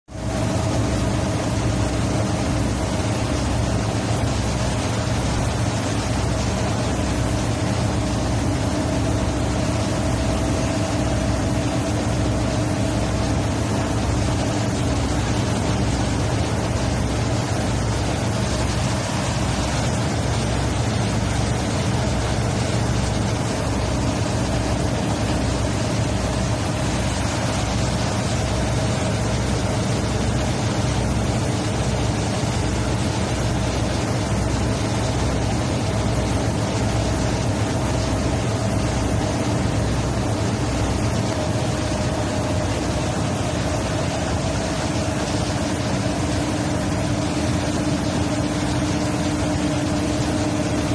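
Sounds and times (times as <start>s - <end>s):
churning wake water rushing: 0.0s - 50.9s
boat engine droning: 0.1s - 50.9s.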